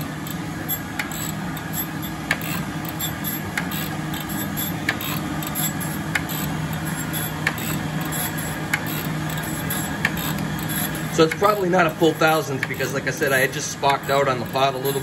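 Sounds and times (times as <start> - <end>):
coolant washing: 0.0 - 15.0
grinder motor hum: 0.0 - 15.0.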